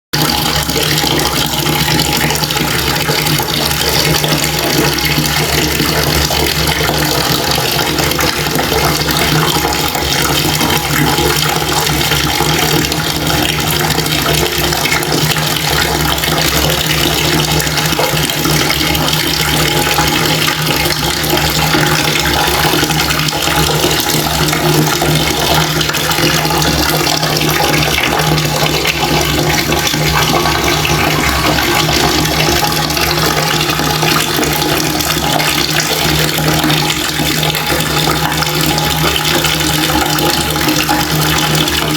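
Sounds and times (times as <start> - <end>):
water running from a tap: 0.2 - 41.9.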